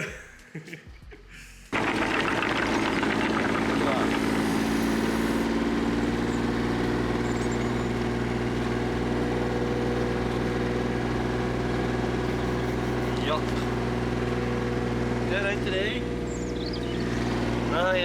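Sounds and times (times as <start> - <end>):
engine idling: 1.7 - 18.0.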